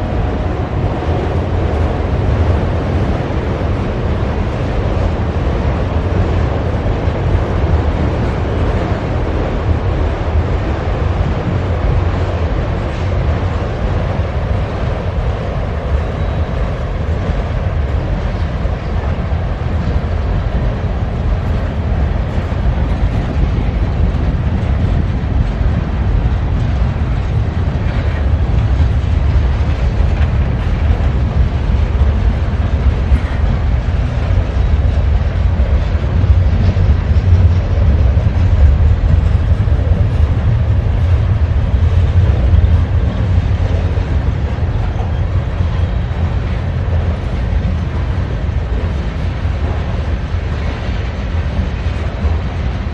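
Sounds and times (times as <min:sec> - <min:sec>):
freight train rumbling on rails: 0:00.0 - 0:52.9.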